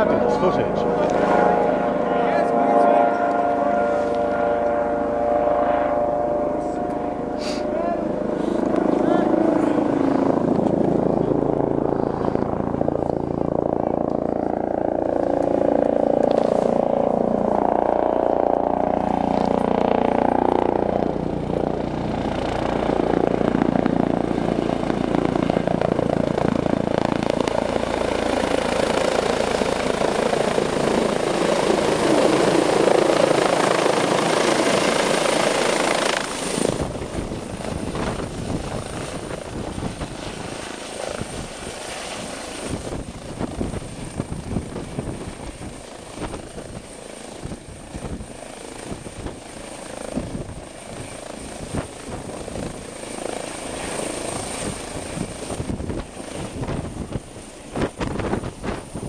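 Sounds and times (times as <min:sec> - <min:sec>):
gusty rotor downwash: 0:00.0 - 0:59.0
helicopter engine and rotor: 0:00.0 - 0:59.0.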